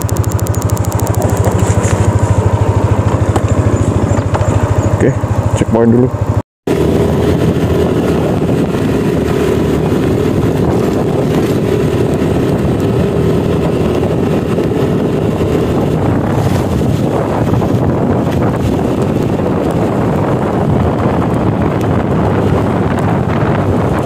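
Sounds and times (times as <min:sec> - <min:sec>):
scooter engine running: 0:00.0 - 0:24.0
wind rushing over microphone: 0:00.0 - 0:24.0.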